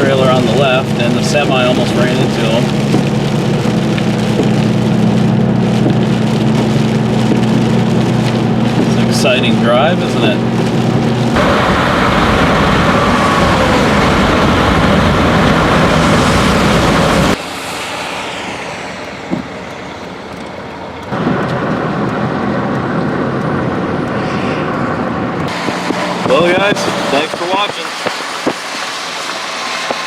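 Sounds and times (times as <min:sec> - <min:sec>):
heavy rain on vehicle: 0:00.0 - 0:17.6, 0:18.5 - 0:24.2, 0:25.2 - 0:30.0
road noise: 0:00.0 - 0:30.0.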